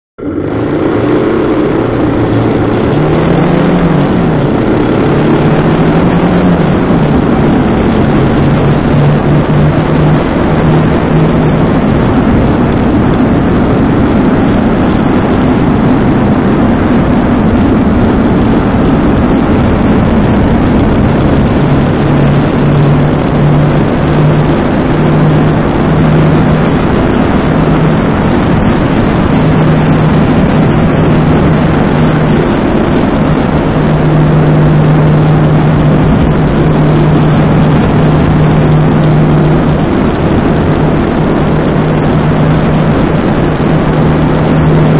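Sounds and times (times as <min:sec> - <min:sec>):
motorcycle engine hum: 0:00.2 - 0:44.9
wind and road noise: 0:00.2 - 0:44.9.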